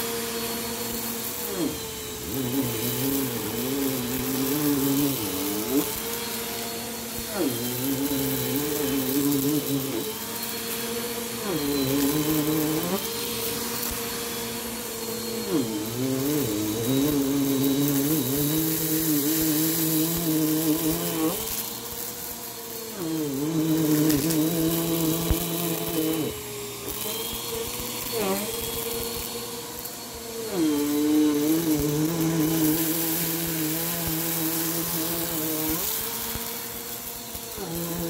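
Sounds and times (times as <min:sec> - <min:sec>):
vacuum cleaner motor hum: 0:00.0 - 0:38.0.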